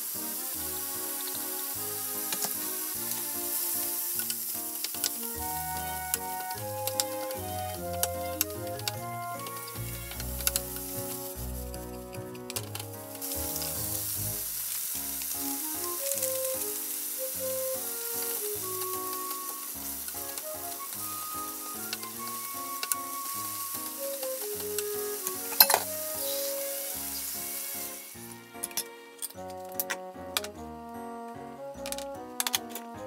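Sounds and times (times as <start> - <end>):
vegetables sizzling in frying pan: 0.0 - 28.4
background music: 0.0 - 33.0.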